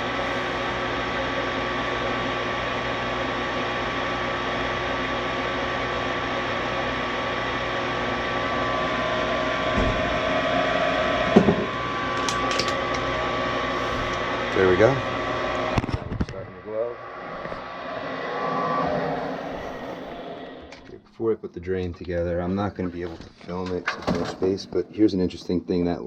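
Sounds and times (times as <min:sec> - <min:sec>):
furnace motor humming and whining: 0:00.0 - 0:25.8.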